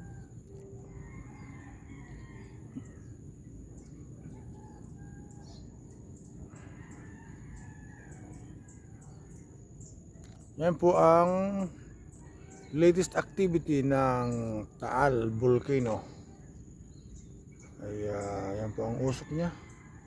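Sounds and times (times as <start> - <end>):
distant roosters crowing: 0.0 - 20.0.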